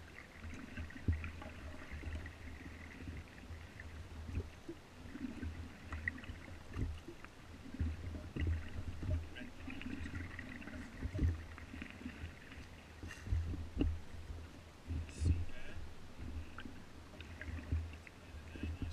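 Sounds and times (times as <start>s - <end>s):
water sloshing: 0.0s - 18.9s.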